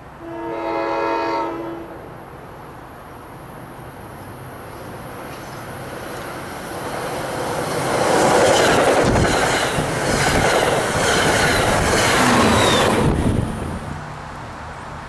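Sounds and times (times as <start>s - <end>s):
diesel locomotive passing: 0.0s - 15.0s
train passing with wheel clatter: 0.0s - 15.0s.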